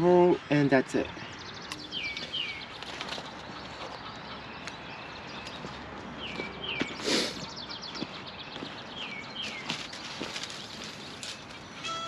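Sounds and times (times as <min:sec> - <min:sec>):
footsteps on dirt and gravel: 0:01.8 - 0:12.0.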